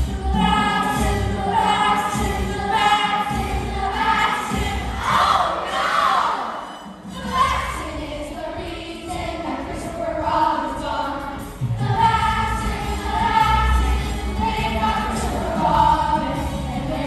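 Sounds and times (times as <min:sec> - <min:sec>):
chorus of young voices singing: 0:00.0 - 0:17.0
musical accompaniment: 0:00.0 - 0:17.0.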